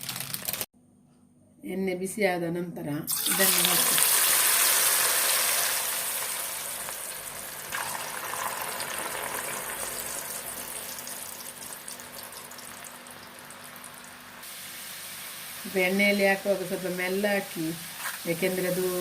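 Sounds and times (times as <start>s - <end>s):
potato strips sizzling in oil: 3.2s - 19.0s.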